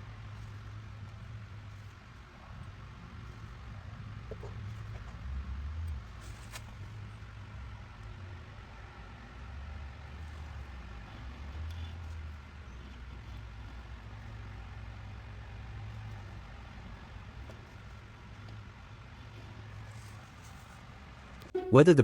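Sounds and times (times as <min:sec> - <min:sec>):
wheel hub turning low rumble: 0:00.0 - 0:21.9.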